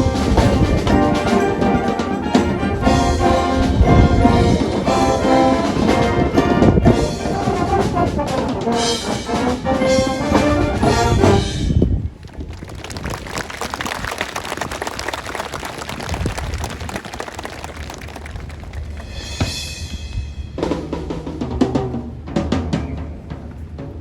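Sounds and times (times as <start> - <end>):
marching band playing: 0.0 - 11.9, 13.1 - 24.0.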